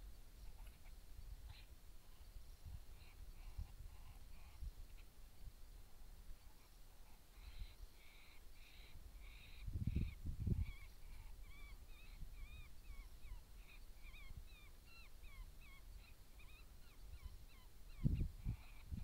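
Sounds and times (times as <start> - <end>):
coyotes yipping: 0.4 - 5.2, 6.4 - 19.0.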